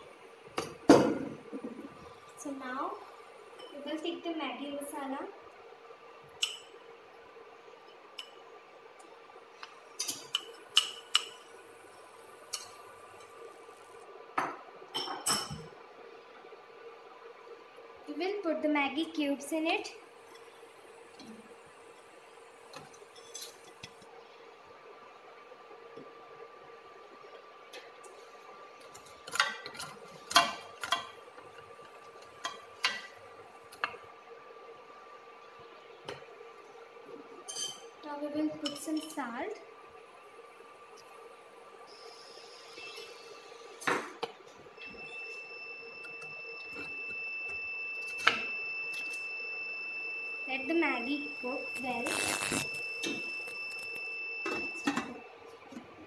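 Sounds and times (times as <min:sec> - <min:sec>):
faint steady cooktop whine: 0:00.0 - 0:56.0
faint steady hum: 0:00.0 - 0:56.0.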